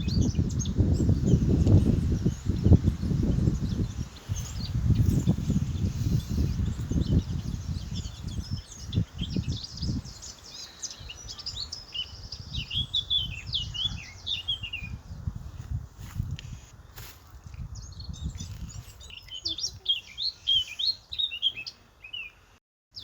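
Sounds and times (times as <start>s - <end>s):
birds chirping and twittering: 0.0s - 23.0s.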